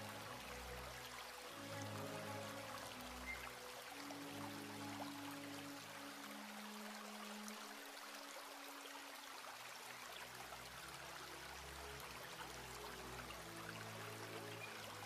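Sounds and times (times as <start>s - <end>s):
quiet music of held low notes: 0.0s - 15.0s.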